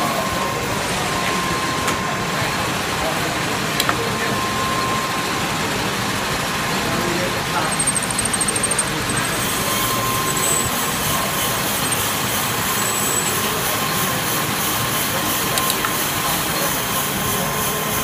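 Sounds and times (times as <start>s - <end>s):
metal lathe running with whine: 0.0s - 18.0s.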